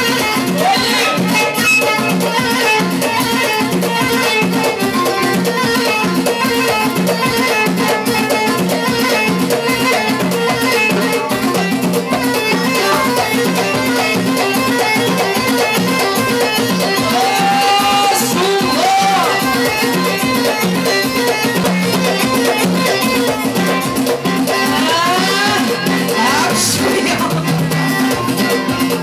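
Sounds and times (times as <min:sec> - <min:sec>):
driving drum beat: 0:00.0 - 0:29.0
live band music: 0:00.0 - 0:29.0.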